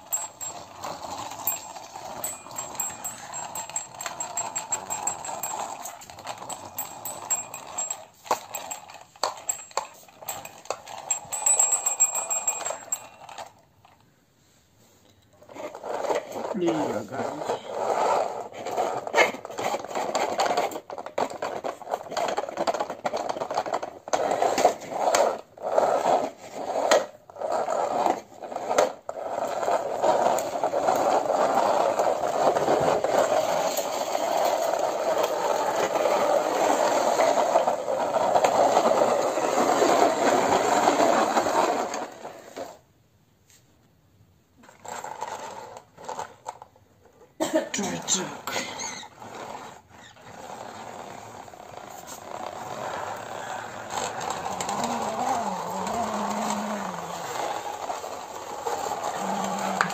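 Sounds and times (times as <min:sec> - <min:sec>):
toy car wheels scraping floor: 0:00.0 - 0:43.9, 0:44.6 - 0:59.9.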